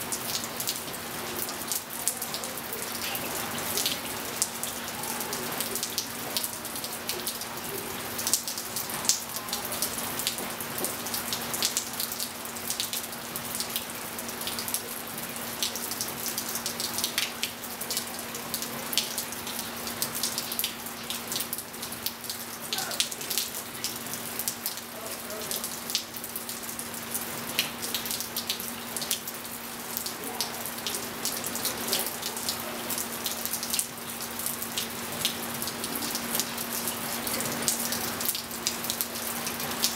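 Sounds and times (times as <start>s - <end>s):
drips on wet patio: 0.0s - 39.9s
rain falling: 0.0s - 39.9s.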